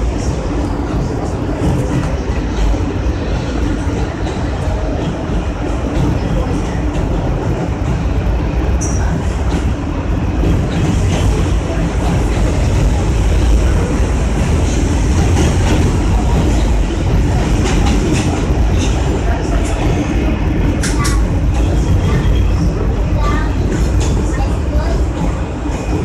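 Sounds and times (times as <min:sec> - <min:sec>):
passing train: 0:00.0 - 0:26.0
rail clicks: 0:00.0 - 0:26.0
train wheels rumbling on rail: 0:00.0 - 0:26.0.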